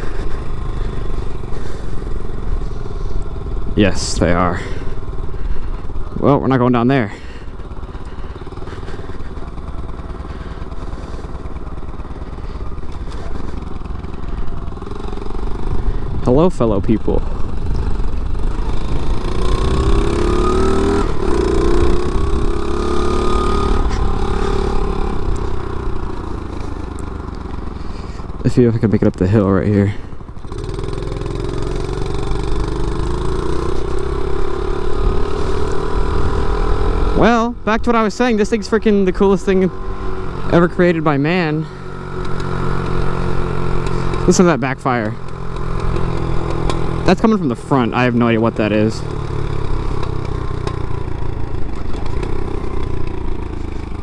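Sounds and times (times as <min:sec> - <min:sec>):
small motorbike engine running: 0:00.0 - 0:54.0.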